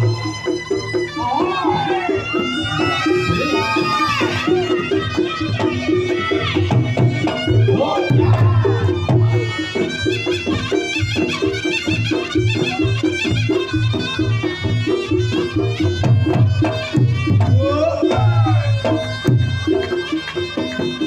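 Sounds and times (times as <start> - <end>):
drums beating: 0.0 - 21.0
shawm melody: 0.0 - 21.0.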